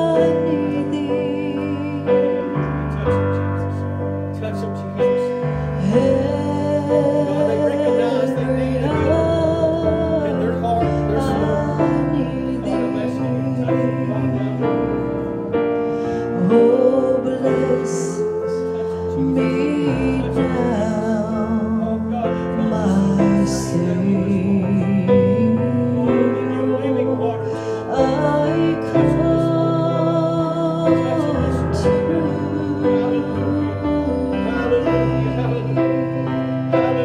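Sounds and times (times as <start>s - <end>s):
gospel singing with vibrato: 0.0s - 37.0s
instrumental accompaniment: 0.0s - 37.0s.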